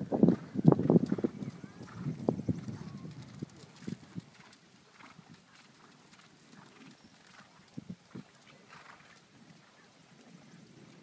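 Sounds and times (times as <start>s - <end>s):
horse hoofbeats on sand: 0.0s - 9.3s.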